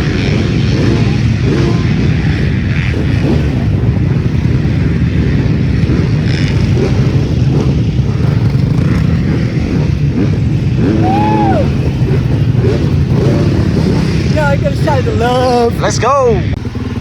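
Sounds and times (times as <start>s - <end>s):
dirt bike engines running: 0.0s - 17.0s.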